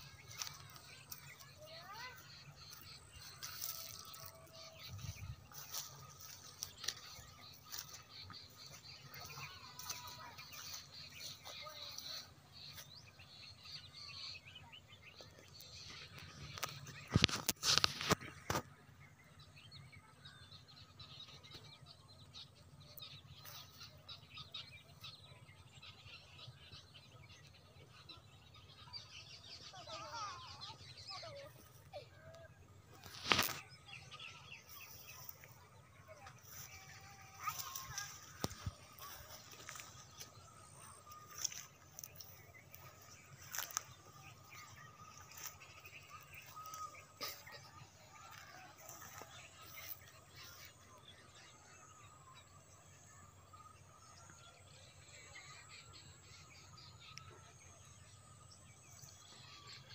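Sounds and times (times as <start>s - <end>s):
faint outdoor ambience: 0.0s - 59.9s
small birds chirping: 0.0s - 59.9s.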